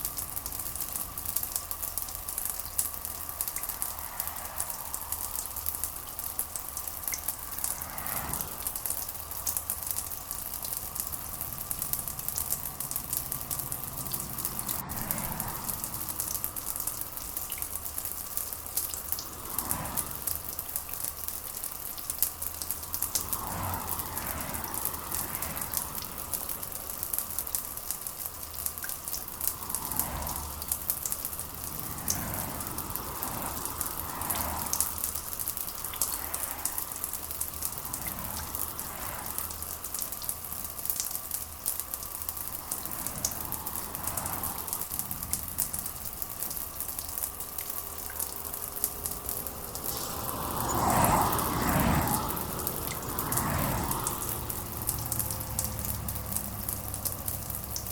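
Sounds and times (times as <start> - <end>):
rain pattering: 0.0 - 57.9.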